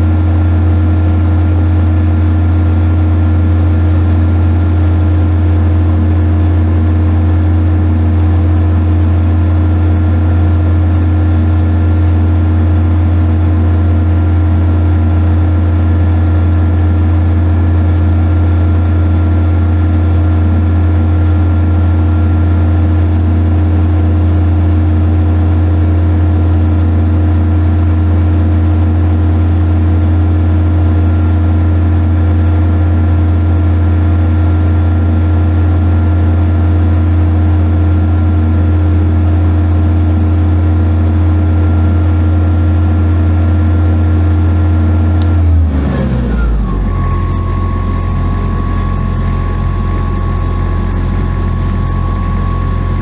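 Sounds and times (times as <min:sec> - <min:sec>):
welder generator engine droning: 0:00.0 - 0:53.0.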